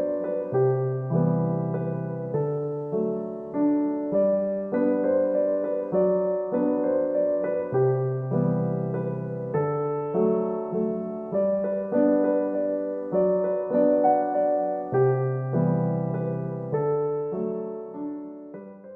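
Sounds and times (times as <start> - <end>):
soft solo piano chords: 0.0 - 18.9.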